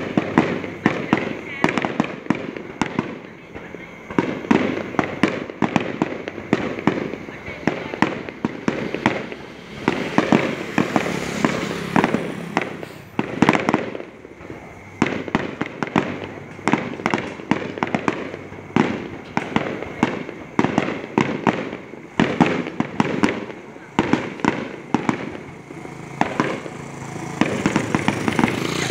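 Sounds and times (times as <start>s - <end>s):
fireworks banging and crackling: 0.0s - 28.9s.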